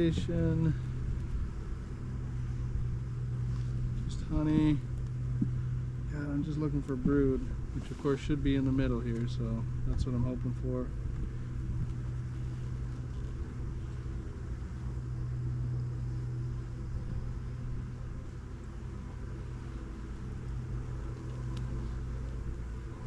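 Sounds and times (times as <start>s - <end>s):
honeybees humming: 0.0s - 23.0s
low rumble: 0.0s - 23.0s.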